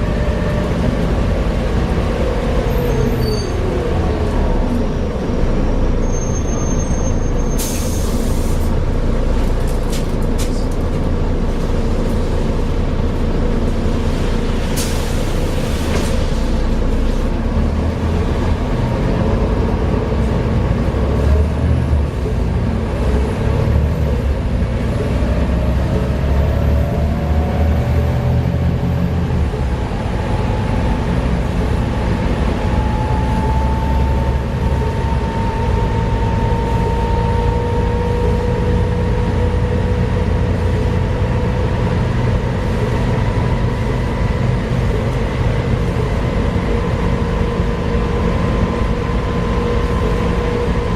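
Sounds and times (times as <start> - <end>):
bus diesel engine drone: 0.0 - 50.9.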